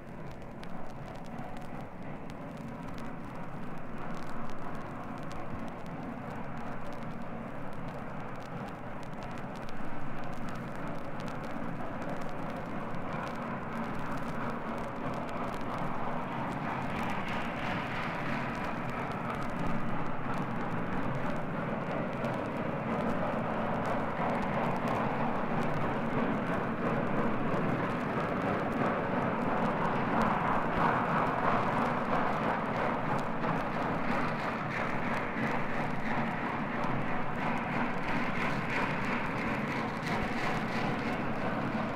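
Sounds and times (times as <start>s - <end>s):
vinyl record crackle: 0.0s - 41.9s.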